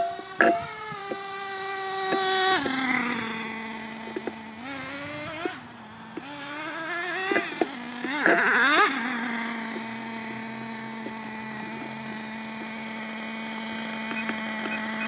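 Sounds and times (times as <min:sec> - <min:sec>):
small nitro engine whining: 0:00.0 - 0:15.0.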